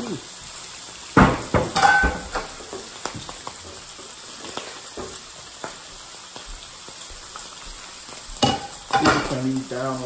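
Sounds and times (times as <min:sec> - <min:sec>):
bacon sizzling in a skillet: 0:00.0 - 0:10.0.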